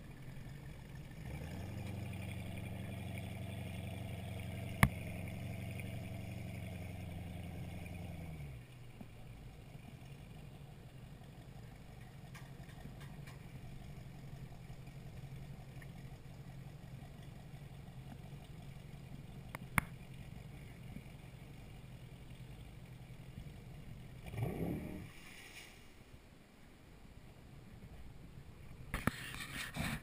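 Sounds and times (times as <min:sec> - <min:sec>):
motorboat engine running: 0:00.0 - 0:25.2.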